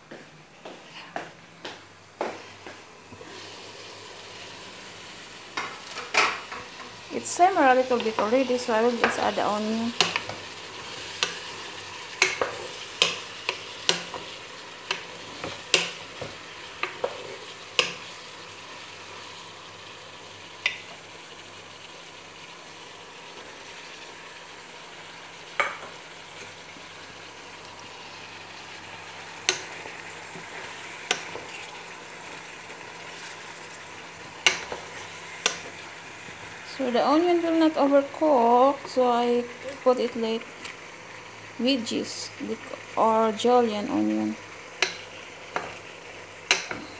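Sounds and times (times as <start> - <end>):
food sizzling in a pot: 2.2 - 46.9.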